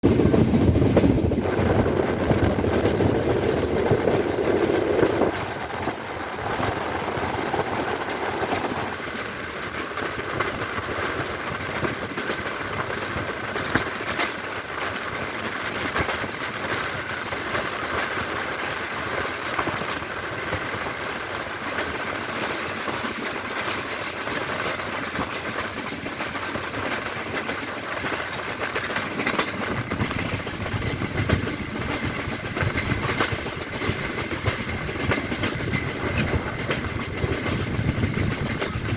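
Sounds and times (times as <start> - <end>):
train rumbling and rattling: 0.0 - 38.9
wheels clicking over rail joints: 0.0 - 38.9.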